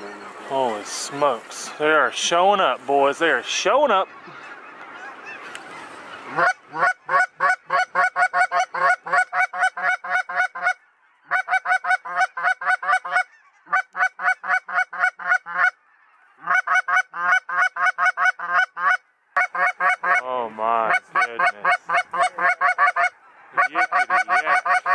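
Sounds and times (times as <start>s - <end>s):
goose honking: 2.2s - 24.9s.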